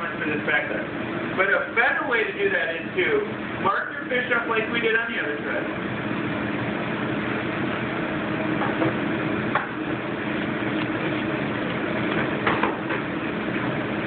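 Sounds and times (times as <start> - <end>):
kitchen equipment humming: 0.0 - 14.0.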